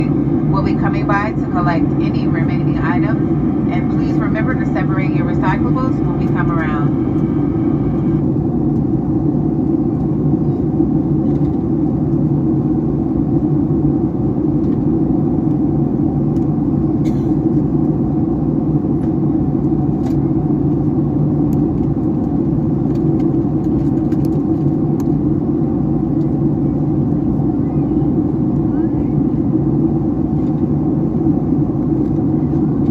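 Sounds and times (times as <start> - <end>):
airplane cabin drone: 0.0 - 32.9.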